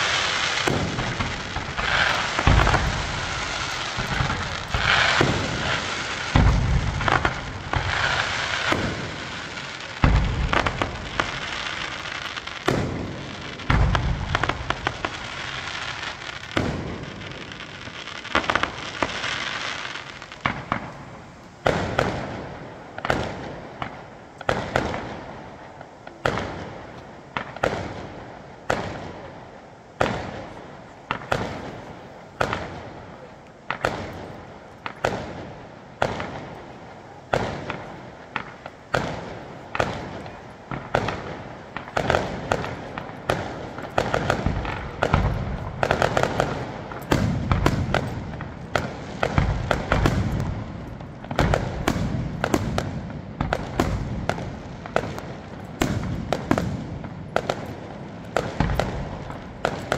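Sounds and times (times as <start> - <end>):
firework bangs echoing: 0.0 - 59.9.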